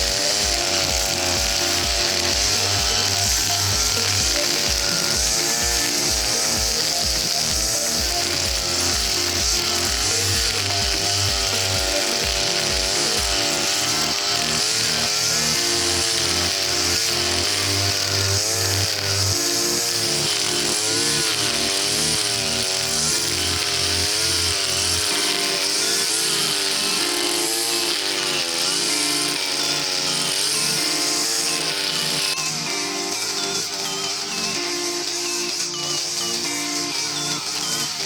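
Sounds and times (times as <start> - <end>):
background music with bass line: 0.0 - 38.0
brush cutter running: 0.0 - 38.0.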